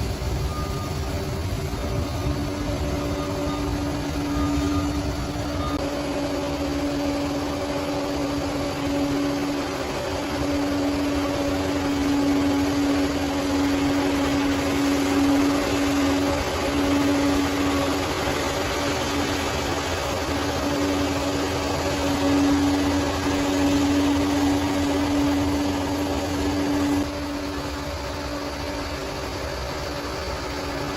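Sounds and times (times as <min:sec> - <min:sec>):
bulldozer diesel engine running: 0:00.0 - 0:30.9.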